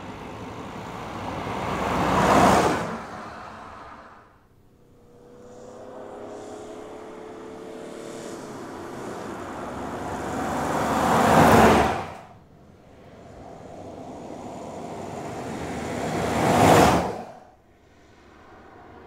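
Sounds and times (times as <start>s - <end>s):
car passing by: 0.0s - 19.0s.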